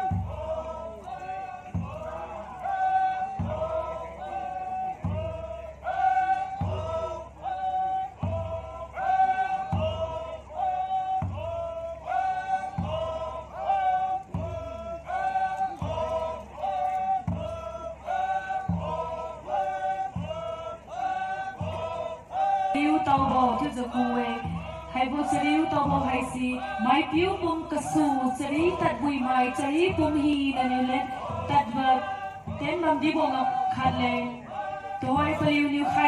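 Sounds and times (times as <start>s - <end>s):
deep drum beat: 0.0s - 36.0s
group chanting in unison: 0.0s - 36.0s.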